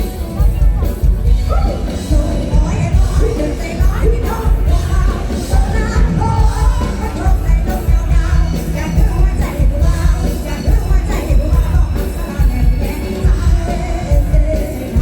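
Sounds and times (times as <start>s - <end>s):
live band music: 0.0s - 15.0s
woman singing: 1.4s - 15.0s.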